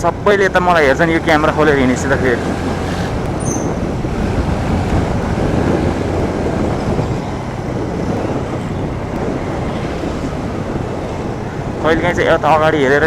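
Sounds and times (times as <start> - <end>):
motorcycle engine running: 0.0 - 13.0
rush of riding: 0.0 - 13.0.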